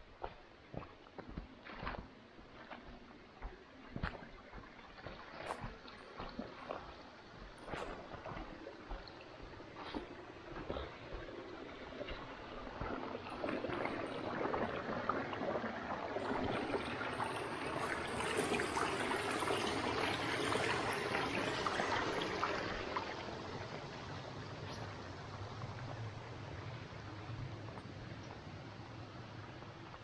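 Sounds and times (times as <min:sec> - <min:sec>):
brook trickling over rocks: 0:02.5 - 0:30.0.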